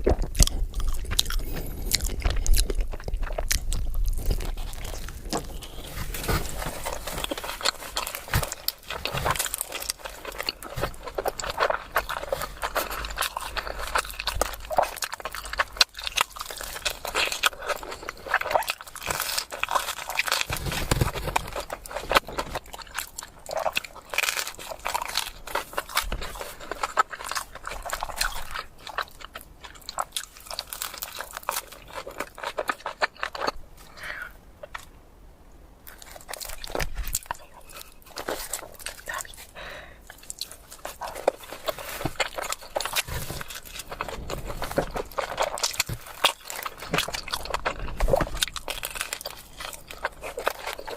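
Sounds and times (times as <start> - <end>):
biting and chewing pizza: 0.0 - 35.0, 35.8 - 50.9.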